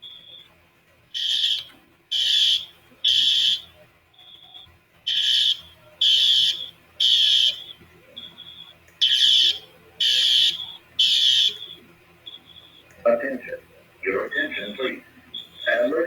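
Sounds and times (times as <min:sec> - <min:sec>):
fire alarm pulses: 0:00.0 - 0:13.0, 0:14.8 - 0:16.0.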